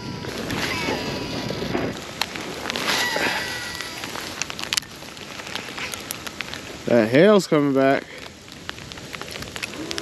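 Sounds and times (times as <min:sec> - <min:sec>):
hail hissing and ticking: 0:00.0 - 0:10.0.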